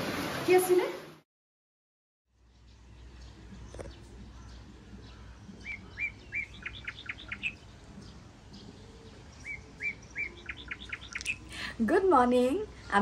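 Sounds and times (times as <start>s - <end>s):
songbird singing: 2.3s - 13.0s.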